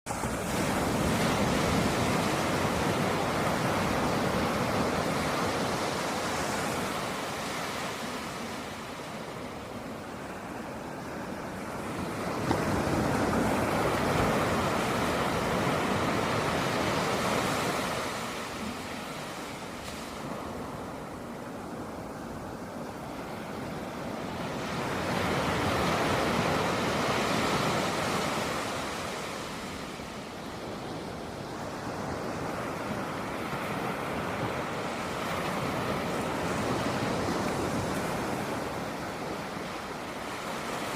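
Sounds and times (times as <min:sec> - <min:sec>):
sea waves breaking on beach: 0:00.1 - 0:40.9.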